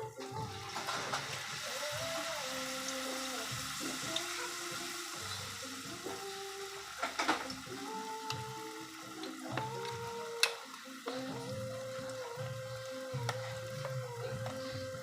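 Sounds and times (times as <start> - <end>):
background music: 0.0 - 15.0
banana slices sizzling in oil: 0.0 - 15.0.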